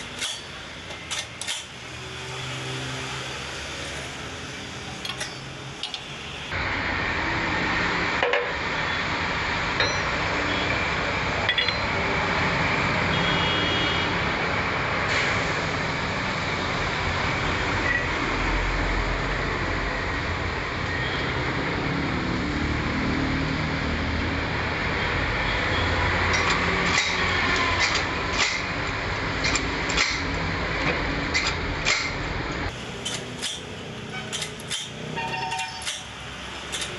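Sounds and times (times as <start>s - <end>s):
road traffic: 0.0s - 36.9s.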